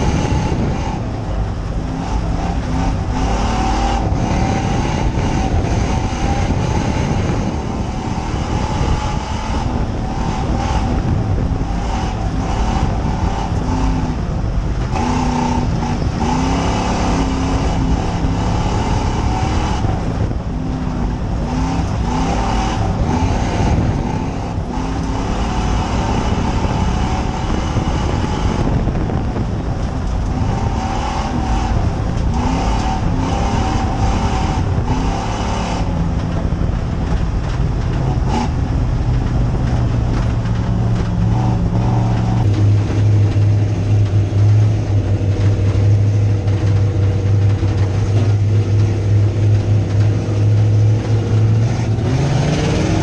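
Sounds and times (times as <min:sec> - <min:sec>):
constant rushing noise: 0:00.0 - 0:53.0
race car engine: 0:00.0 - 0:53.0.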